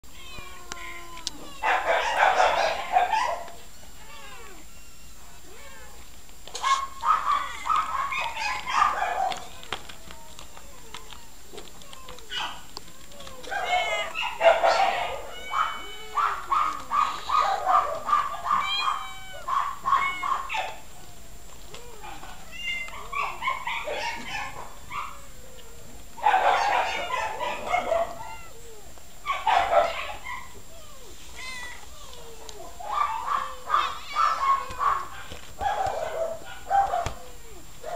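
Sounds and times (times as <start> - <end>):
cat meowing: 0.1 - 6.0, 6.6 - 20.7, 21.7 - 25.7, 26.4 - 28.9, 30.7 - 35.1.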